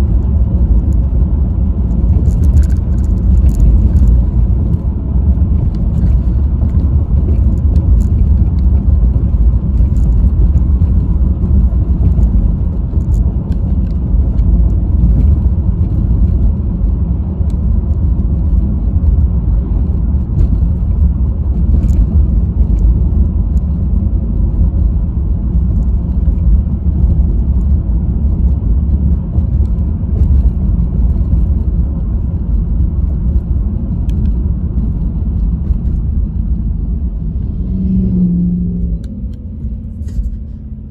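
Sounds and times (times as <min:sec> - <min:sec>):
car road noise: 0:00.0 - 0:40.9.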